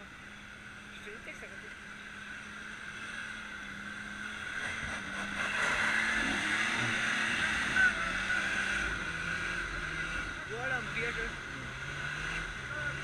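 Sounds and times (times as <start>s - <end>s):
vehicle engine working hard: 0.0s - 13.0s.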